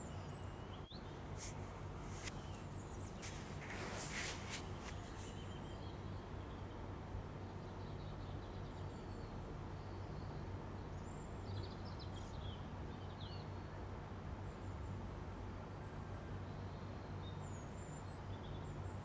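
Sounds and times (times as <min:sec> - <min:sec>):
faint birds chirping: 0:00.0 - 0:19.0
steady low hum: 0:00.0 - 0:19.0.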